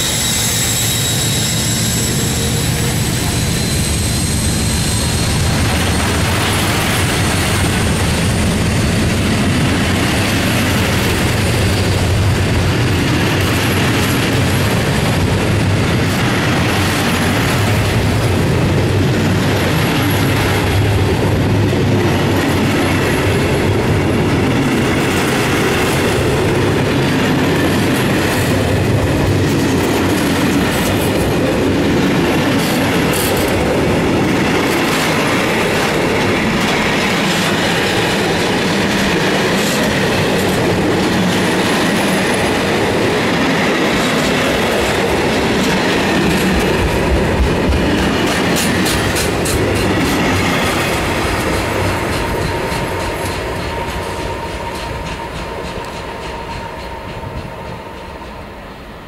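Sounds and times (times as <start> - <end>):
diesel locomotive whine: 0.0 - 59.0
train wheels clattering and squealing: 0.0 - 59.0.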